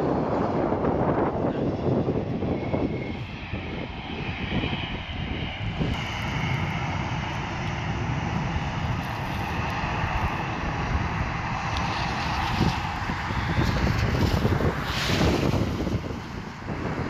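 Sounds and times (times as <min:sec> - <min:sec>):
distant jet engines running: 0:00.0 - 0:17.0
wind on microphone: 0:00.0 - 0:17.0.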